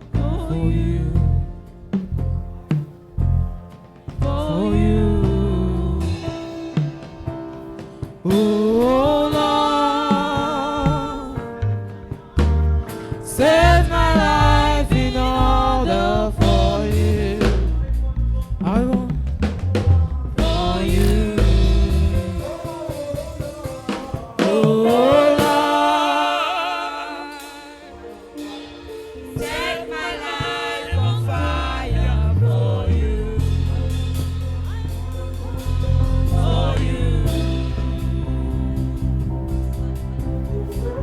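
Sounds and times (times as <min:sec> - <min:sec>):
person singing: 0:00.0 - 0:01.8, 0:04.2 - 0:41.0
drum kit and instruments: 0:00.0 - 0:41.0.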